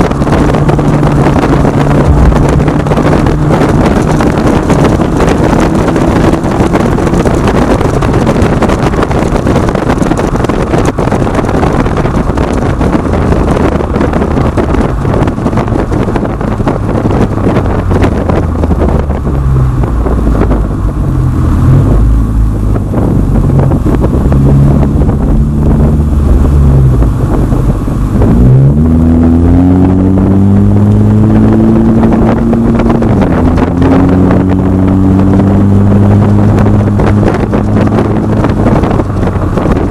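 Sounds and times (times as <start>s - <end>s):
car exhaust note: 0.0s - 39.9s
road and wind noise: 0.0s - 39.9s.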